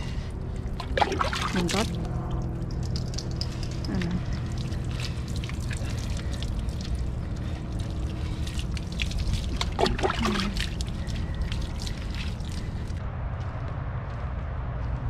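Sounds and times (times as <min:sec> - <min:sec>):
water splashing and trickling: 0:00.0 - 0:13.0
low background rumble: 0:00.0 - 0:15.0.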